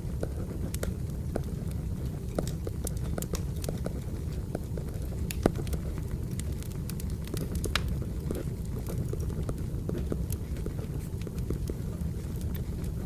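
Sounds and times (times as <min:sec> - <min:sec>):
firewood crackling and popping: 0:00.0 - 0:13.0.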